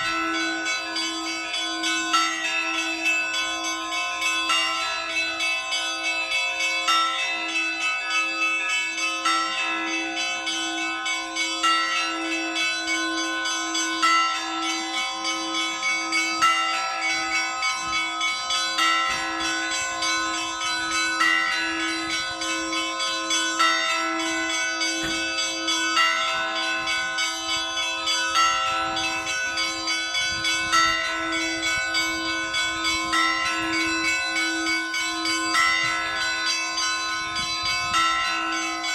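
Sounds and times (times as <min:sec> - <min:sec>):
low church bell striking: 0:00.0 - 0:38.9.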